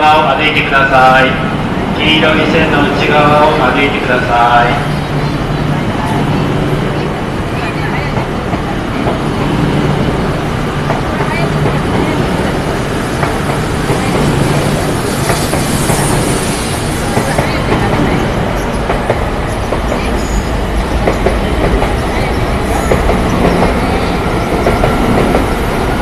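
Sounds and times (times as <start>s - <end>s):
train rolling: 0.0s - 26.0s.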